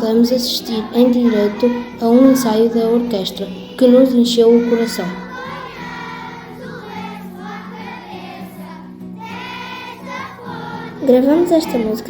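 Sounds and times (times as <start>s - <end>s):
choir singing: 0.2s - 12.0s.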